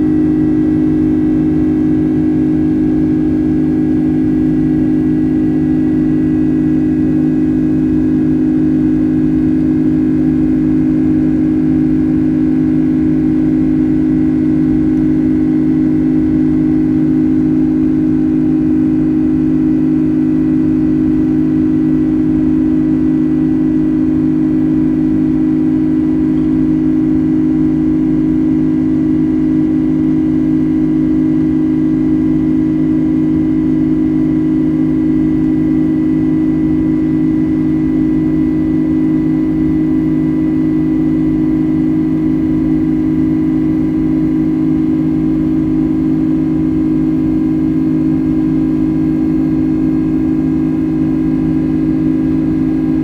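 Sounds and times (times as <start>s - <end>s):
jet engine hum: 0.0s - 53.0s.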